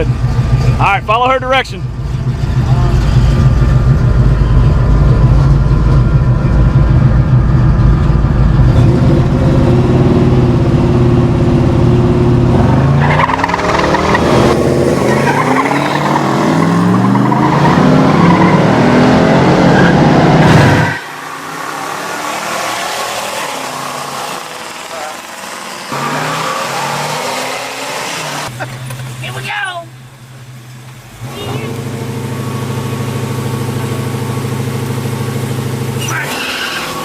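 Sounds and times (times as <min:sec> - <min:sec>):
drag-race car engines roaring: 0:00.0 - 0:37.0.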